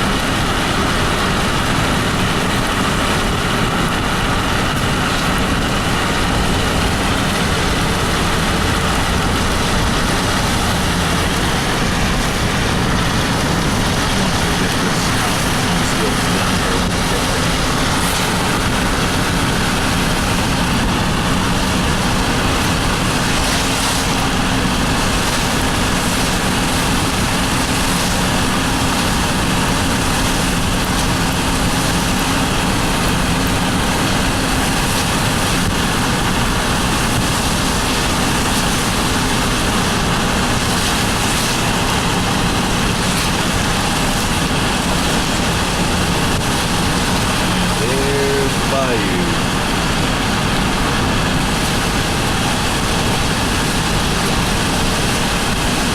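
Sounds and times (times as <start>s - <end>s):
car interior road noise: 0.0s - 55.9s.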